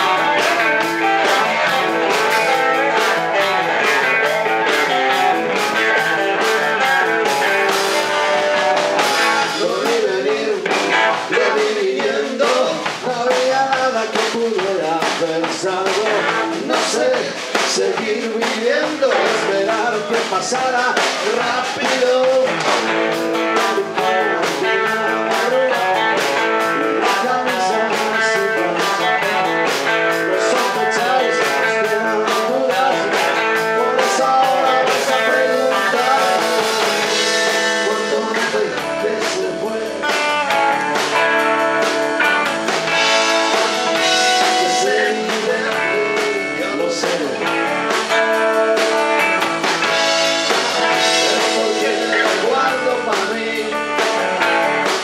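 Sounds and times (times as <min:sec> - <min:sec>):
live rock band playing: 0:00.0 - 0:55.0
man singing: 0:00.0 - 0:55.0.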